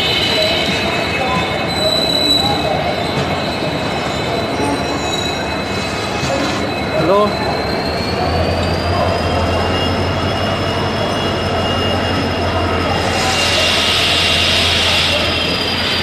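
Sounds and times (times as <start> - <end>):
high-pitched squealing: 0.0 - 16.0
train coaches rolling past: 0.0 - 16.0.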